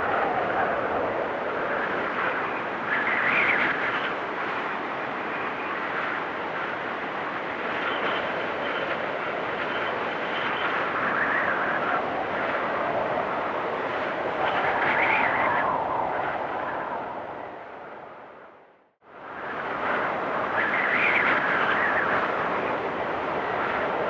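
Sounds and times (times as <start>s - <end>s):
blizzard wind blowing: 0.0s - 24.0s.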